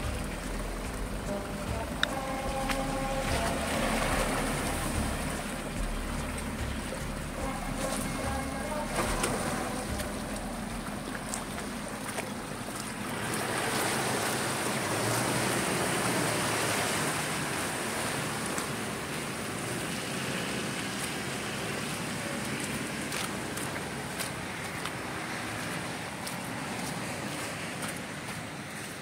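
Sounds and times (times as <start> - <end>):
vehicle driving through mud: 0.0 - 29.0.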